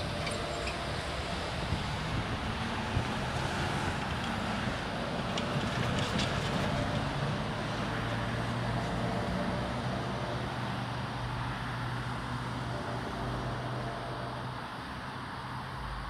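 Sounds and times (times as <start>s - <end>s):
cars driving over tracks: 0.0s - 16.0s.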